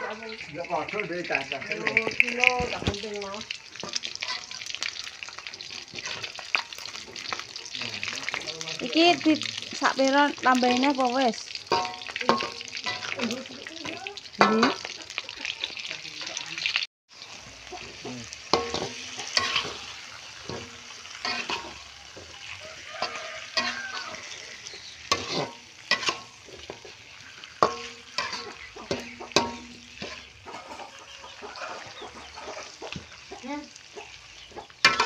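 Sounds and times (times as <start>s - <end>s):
chicken frying in oil: 0.0s - 35.0s
metal spatula scraping wok: 1.9s - 16.5s, 17.2s - 35.0s.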